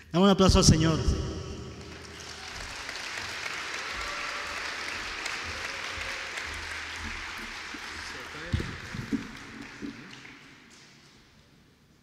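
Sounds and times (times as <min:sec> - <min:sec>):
audience applauding: 0:01.7 - 0:11.5.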